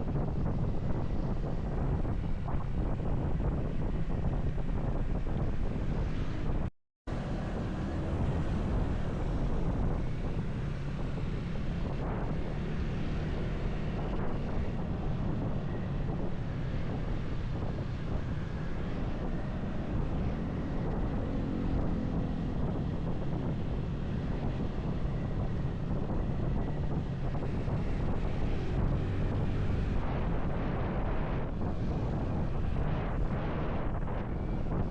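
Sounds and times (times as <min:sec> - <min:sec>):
motorcycle road and engine rumble: 0:00.0 - 0:34.9
wind rushing over microphone: 0:00.0 - 0:34.9.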